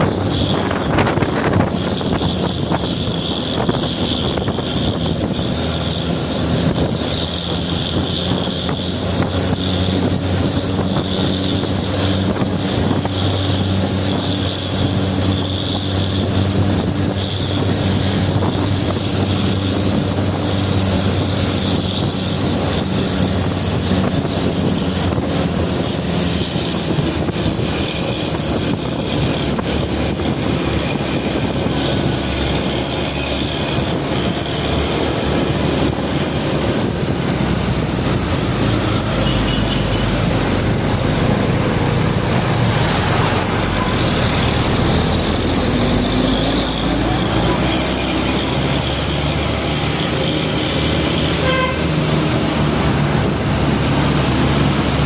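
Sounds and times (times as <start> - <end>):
bus engine running: 0.0 - 55.0
wind noise on microphone: 0.0 - 55.0.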